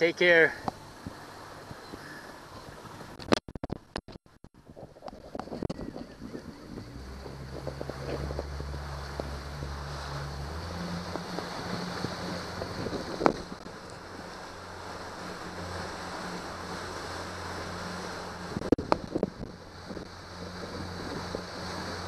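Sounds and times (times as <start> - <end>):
motorboat engine running: 0.0 - 22.0
water splashing along hull: 0.0 - 22.0
wind on microphone: 0.7 - 22.0.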